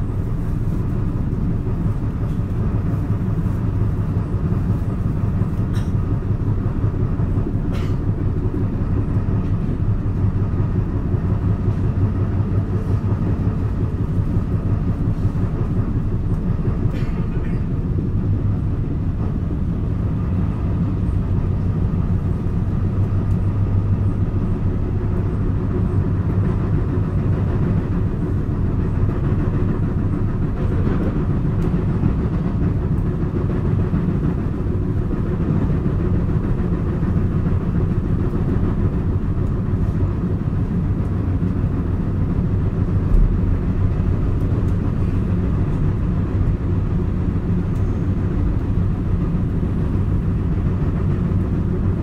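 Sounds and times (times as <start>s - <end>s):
train running noise: 0.0s - 52.0s.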